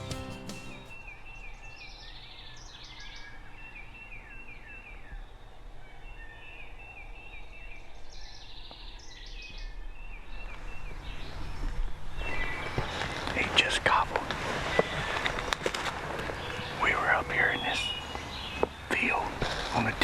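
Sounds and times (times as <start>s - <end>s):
songbird chirping: 0.0s - 20.0s.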